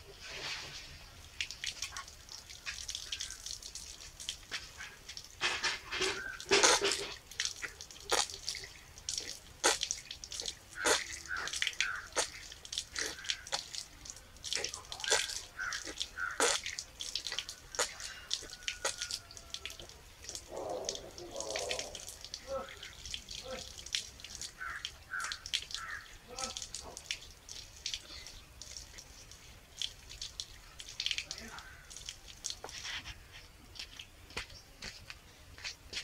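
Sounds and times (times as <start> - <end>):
water splashing and dripping: 0.0 - 36.0.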